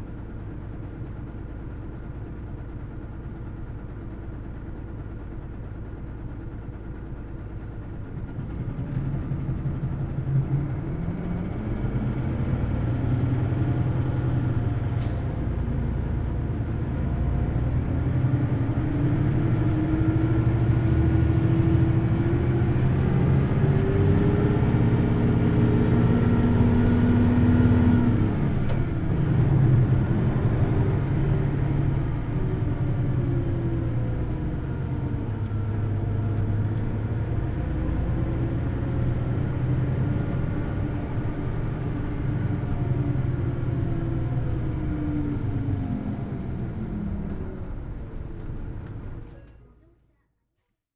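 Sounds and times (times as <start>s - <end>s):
bus engine accelerating: 0.0s - 49.8s.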